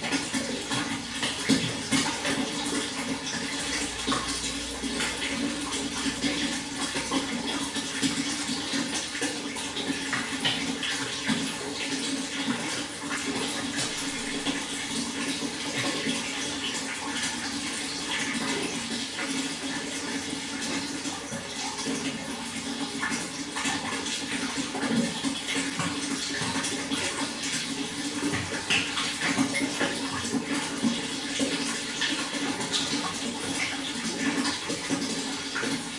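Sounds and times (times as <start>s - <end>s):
water flowing: 0.0s - 35.9s.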